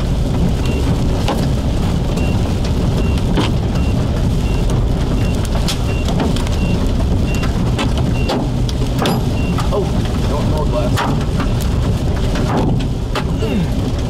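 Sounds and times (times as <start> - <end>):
rain: 0.0 - 14.0
tyres rumbling on road: 0.0 - 14.0.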